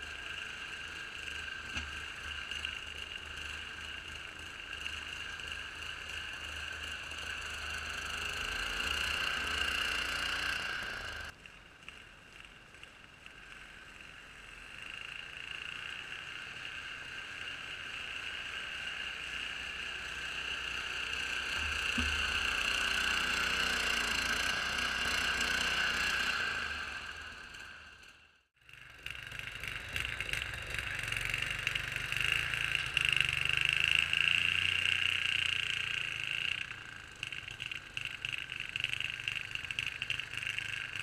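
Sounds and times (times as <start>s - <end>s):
garden tractor engine whine: 0.0s - 11.3s, 19.4s - 41.0s.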